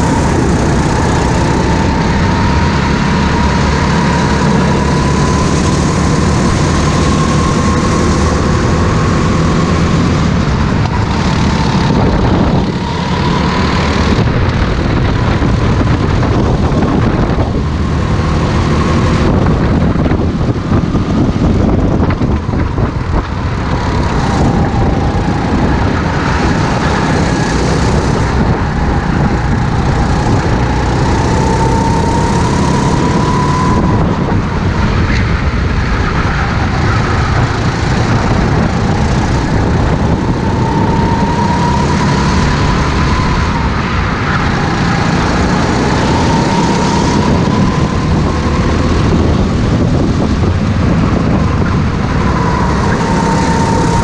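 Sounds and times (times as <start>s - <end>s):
go-kart engine at full throttle: 0.0s - 54.0s.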